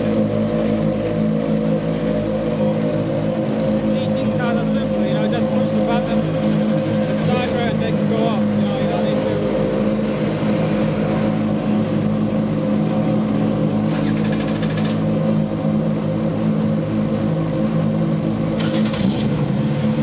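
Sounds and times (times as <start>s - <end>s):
race car engines idling: 0.0s - 20.0s.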